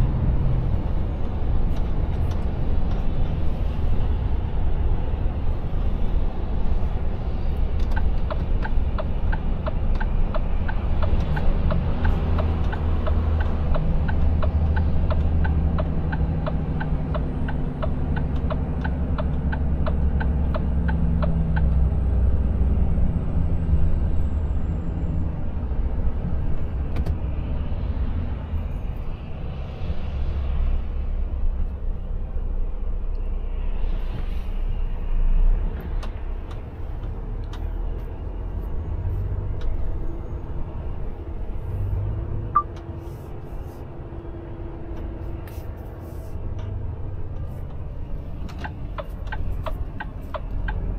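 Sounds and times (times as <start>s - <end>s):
truck engine and road rumble: 0.0s - 50.9s.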